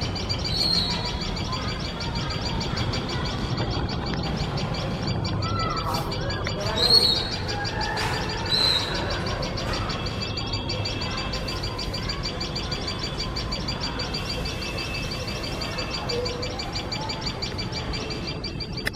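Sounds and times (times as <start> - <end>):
birds giving shrill alarm calls: 0.0 - 18.9.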